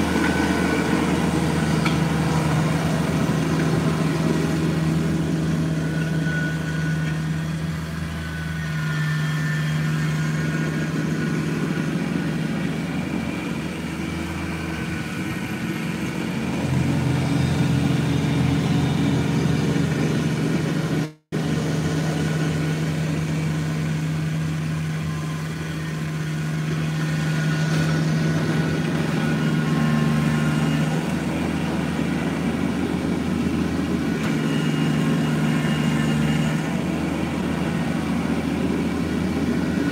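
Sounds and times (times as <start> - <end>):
snowblower: 0.0 - 39.9
tractor diesel engine running: 0.0 - 39.9.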